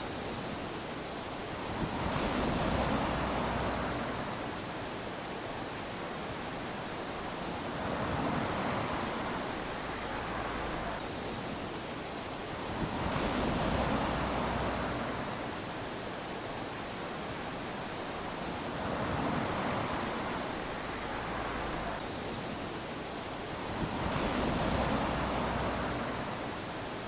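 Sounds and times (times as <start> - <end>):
small waves lapping on shore: 0.0 - 27.0.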